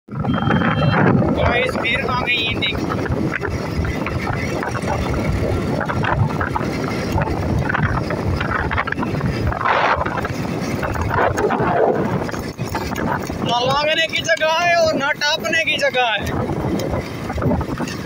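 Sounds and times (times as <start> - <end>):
motorcycle engine running: 0.1 - 18.0
wind rush on microphone: 0.1 - 18.0.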